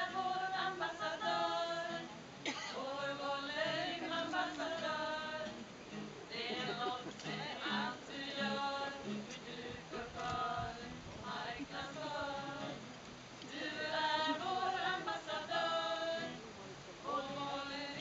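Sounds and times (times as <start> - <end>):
group singing together: 0.0 - 16.4, 17.0 - 18.0
acoustic guitar: 0.0 - 18.0.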